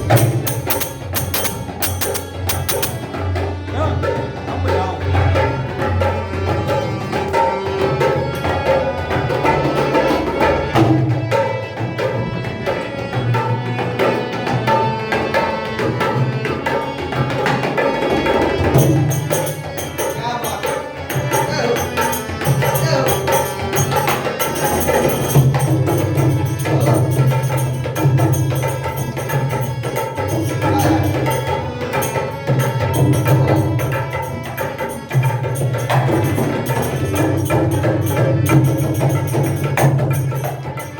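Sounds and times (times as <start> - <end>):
bright busy percussion: 0.0 - 40.9
live indian music: 0.0 - 40.9
tabla beat: 0.0 - 40.9.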